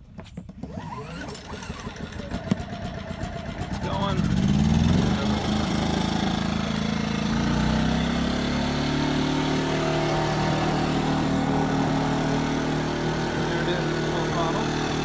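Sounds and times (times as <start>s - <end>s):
generator engine running: 0.6s - 15.0s.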